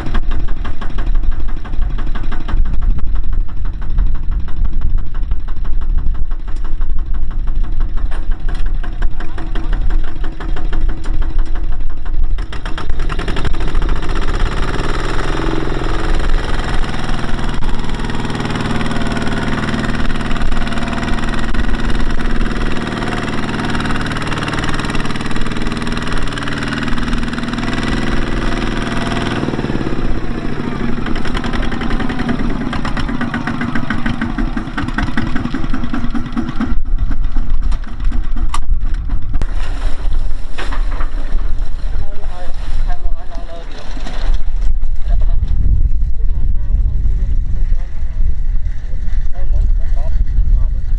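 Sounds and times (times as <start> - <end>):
small diesel engine running: 0.0 - 45.0.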